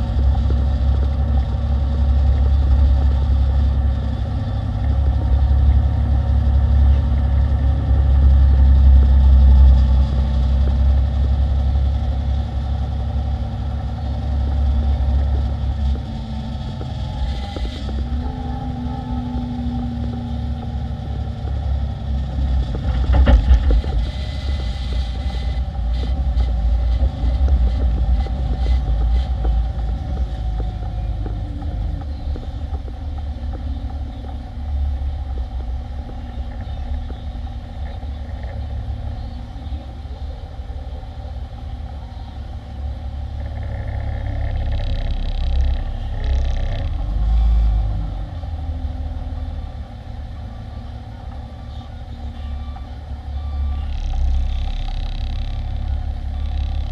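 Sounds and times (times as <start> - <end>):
diesel truck engine rumbling: 0.0 - 56.9.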